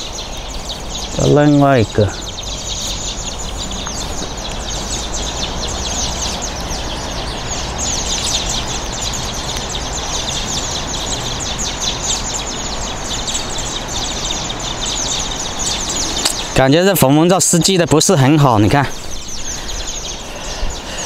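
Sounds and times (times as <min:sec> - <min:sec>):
many small birds chirping: 0:00.0 - 0:21.0
steady background noise: 0:00.0 - 0:21.0.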